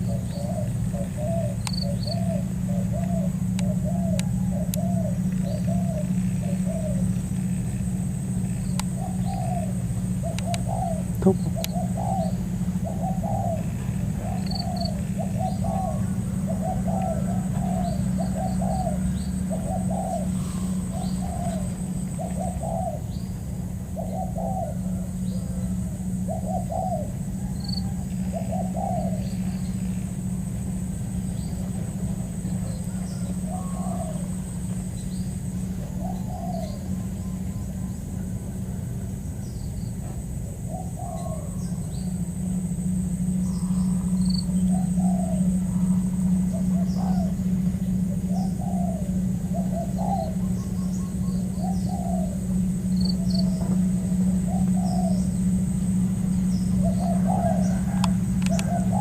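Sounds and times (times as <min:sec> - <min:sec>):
dove cooing: 0:00.0 - 0:59.0
small birds chirping: 0:00.0 - 0:59.0
steady low hum: 0:00.0 - 0:59.0.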